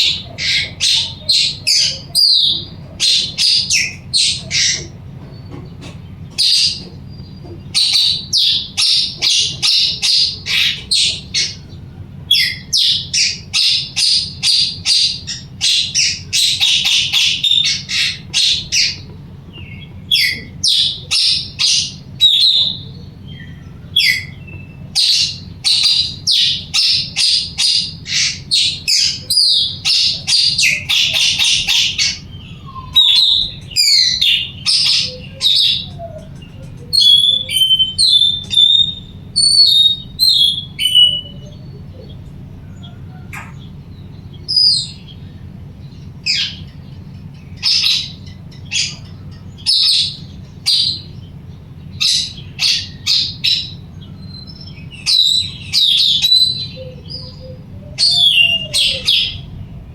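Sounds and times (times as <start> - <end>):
songbird calling: 0.0 - 59.9.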